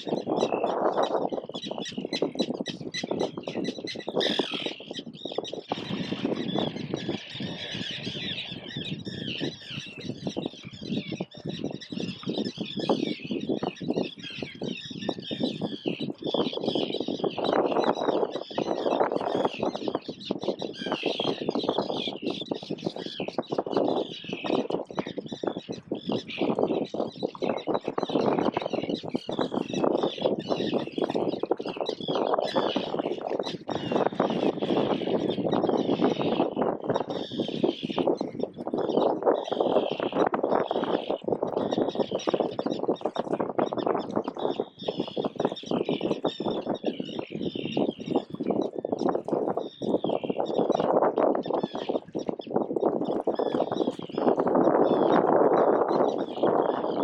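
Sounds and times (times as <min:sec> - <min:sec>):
gulls squawking: 0:00.0 - 0:57.0.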